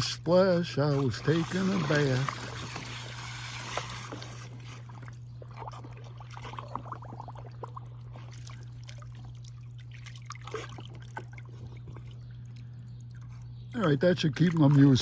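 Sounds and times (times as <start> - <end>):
water splashing in a pool: 0.8 - 15.0.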